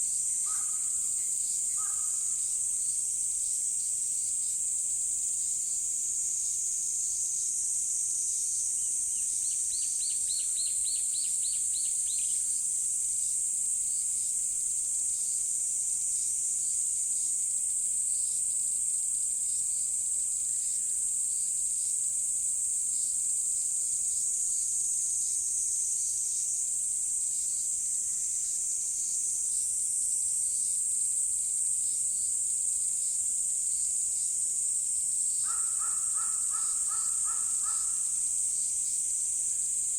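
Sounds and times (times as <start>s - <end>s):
insects calling: 0.0s - 39.9s.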